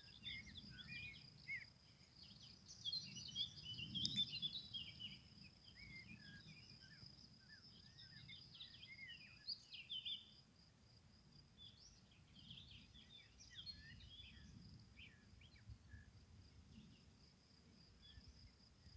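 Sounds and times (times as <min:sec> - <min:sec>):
faint birds chirping: 0:00.0 - 0:18.9
high insect trill: 0:00.0 - 0:18.9.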